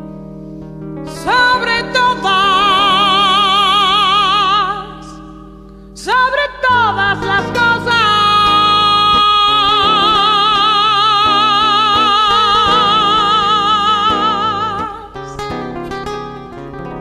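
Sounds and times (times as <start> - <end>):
music with vibrato notes: 0.0 - 17.0.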